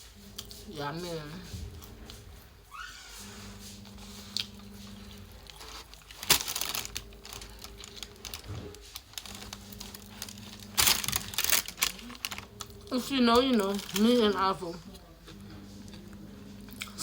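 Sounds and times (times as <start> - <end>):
close chewing with crunches: 0.0 - 2.4, 3.5 - 17.0.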